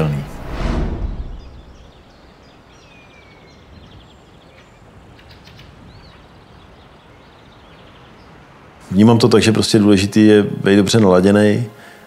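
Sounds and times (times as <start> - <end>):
songbirds chirping and trilling: 0.0 - 12.0
low background hiss: 1.7 - 12.0.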